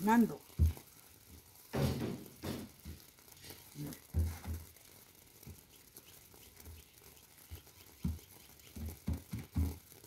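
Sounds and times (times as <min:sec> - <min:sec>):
hand patting tortillas: 0:00.4 - 0:10.0.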